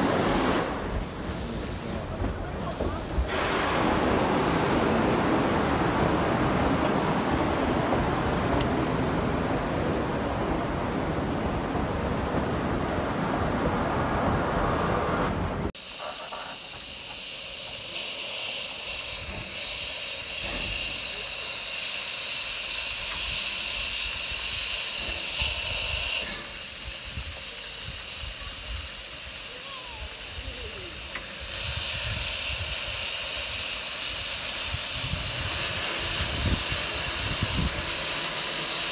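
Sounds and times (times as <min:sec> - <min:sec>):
steam locomotive hissing: 0:00.0 - 0:11.6, 0:15.7 - 0:38.9.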